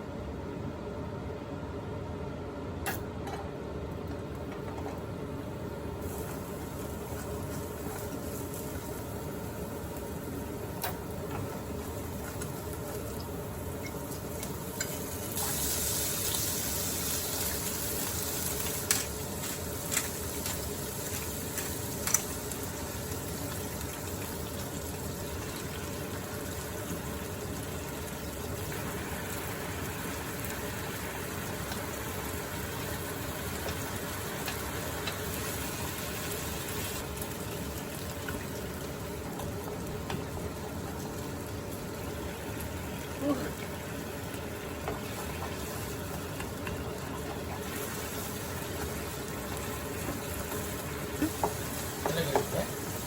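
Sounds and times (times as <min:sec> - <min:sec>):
stew boiling in a pot: 0:03.6 - 0:53.0.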